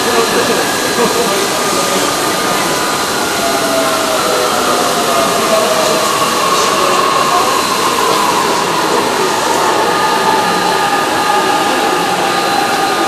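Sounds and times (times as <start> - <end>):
electric train arriving: 0.0 - 13.0.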